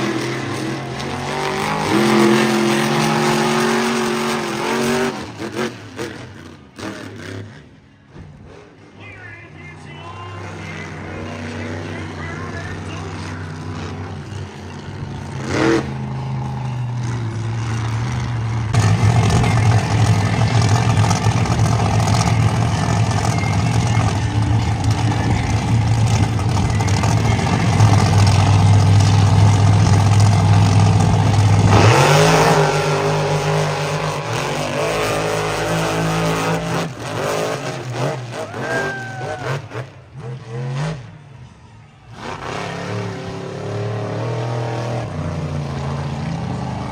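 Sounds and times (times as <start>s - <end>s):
monster truck engines revving: 0.0s - 46.9s.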